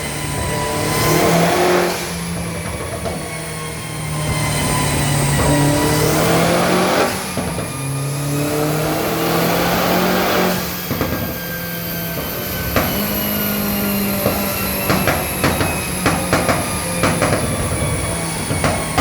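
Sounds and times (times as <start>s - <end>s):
car engine revving: 0.0s - 19.0s
exhaust pops and crackles: 0.3s - 8.1s, 10.2s - 19.0s.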